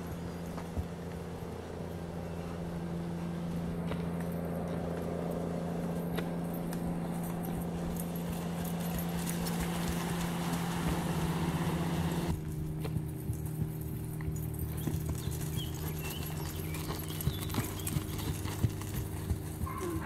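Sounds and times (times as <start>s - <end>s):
hoofbeats on grass: 0.0s - 20.0s.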